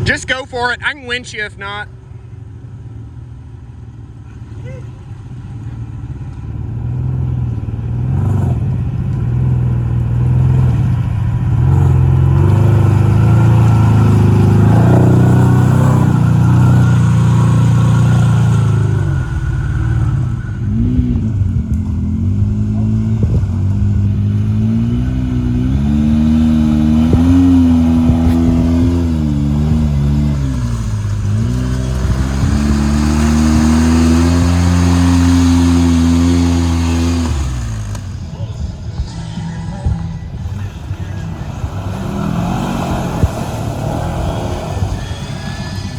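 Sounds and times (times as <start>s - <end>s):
utv engine revving: 0.0s - 45.9s.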